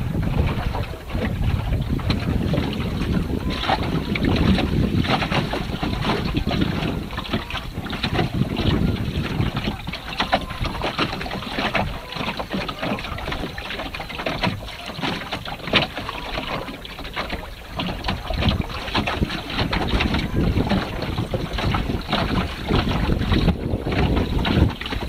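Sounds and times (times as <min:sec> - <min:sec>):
water slapping against hull: 0:00.0 - 0:25.0
wind buffeting microphone: 0:00.0 - 0:25.0.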